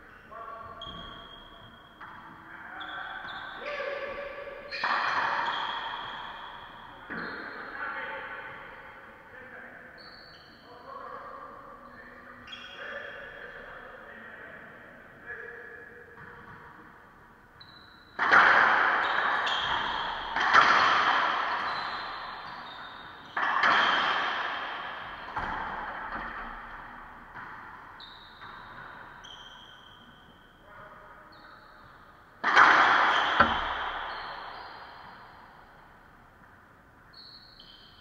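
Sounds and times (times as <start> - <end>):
racquetball hits echoing: 0.0 - 10.5, 15.9 - 38.0.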